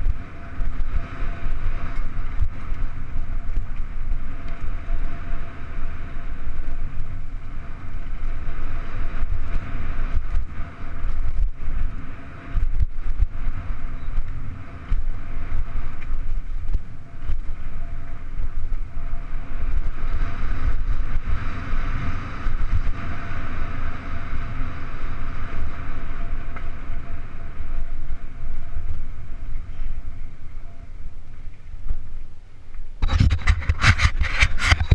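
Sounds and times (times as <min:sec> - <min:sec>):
faint steady whine: 0:00.0 - 0:34.9
wind buffeting microphone: 0:00.0 - 0:34.9.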